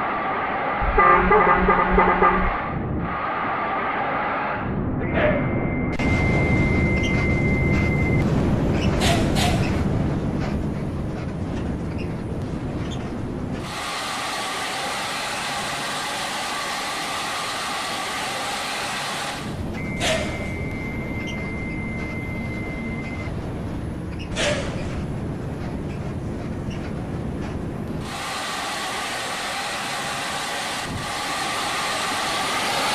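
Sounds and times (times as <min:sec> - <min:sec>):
bus engine and road rumble: 0:00.0 - 0:32.9.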